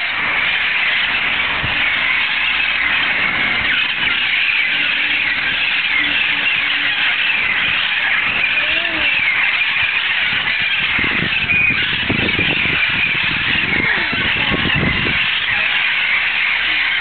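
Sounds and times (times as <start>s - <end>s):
parrots screeching and squawking: 0.0s - 17.0s.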